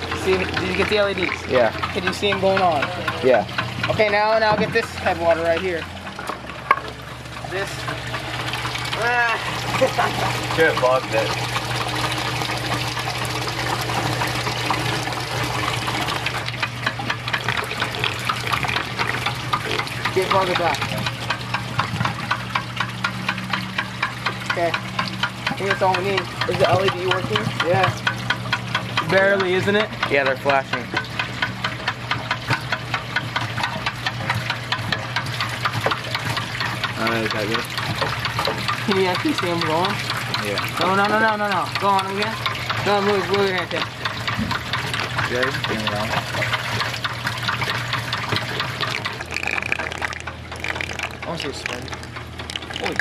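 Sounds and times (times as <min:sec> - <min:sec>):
electric water pump humming: 0:00.0 - 0:53.0
fast uneven clicking: 0:00.0 - 0:53.0
water splashing and churning: 0:00.0 - 0:53.0.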